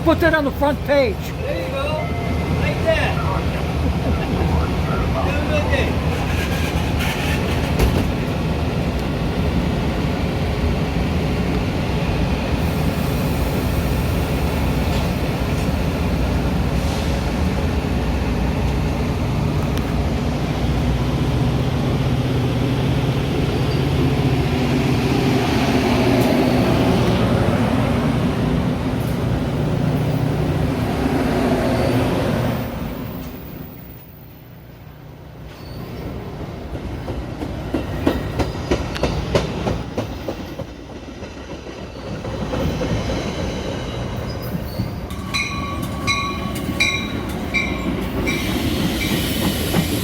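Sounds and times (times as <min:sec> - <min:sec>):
rumble of rolling train cars: 0:00.0 - 0:50.0
train engine hum: 0:00.0 - 0:50.0.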